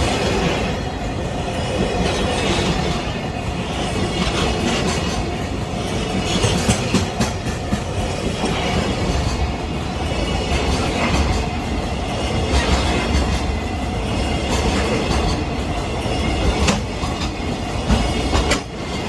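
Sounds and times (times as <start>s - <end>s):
train wheels clattering over rail joints: 1.8s - 19.0s.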